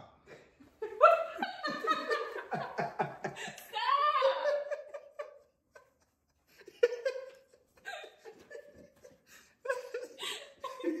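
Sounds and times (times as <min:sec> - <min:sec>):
people laughing: 0:00.8 - 0:11.0.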